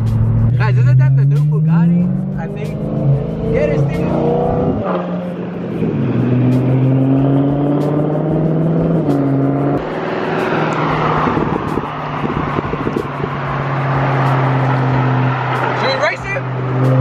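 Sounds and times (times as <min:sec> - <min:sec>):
car engines droning in traffic: 0:00.0 - 0:17.0.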